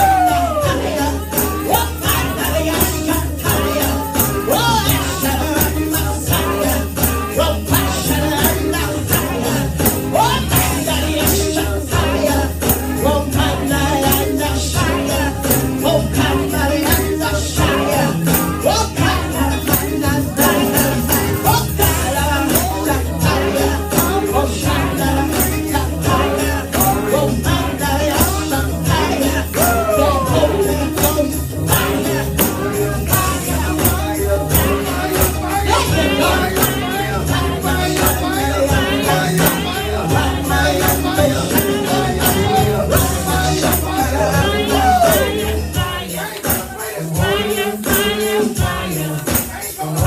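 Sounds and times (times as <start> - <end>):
band with strong bass: 0.0 - 50.0
jingling hand percussion: 0.0 - 50.0
voices singing: 0.0 - 50.0.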